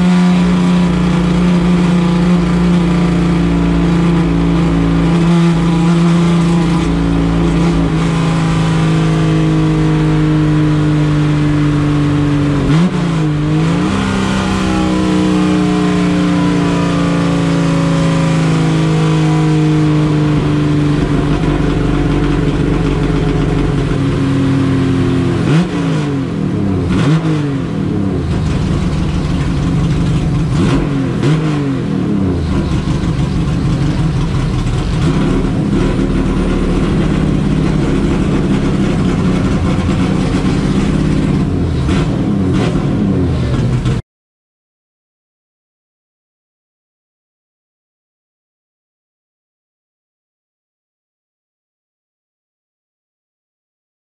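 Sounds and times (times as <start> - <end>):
race car engine running: 0.0 - 44.0.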